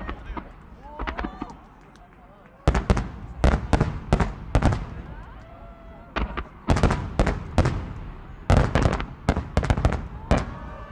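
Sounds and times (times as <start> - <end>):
fireworks bangs: 0.0 - 1.8, 2.6 - 5.3, 6.1 - 10.9.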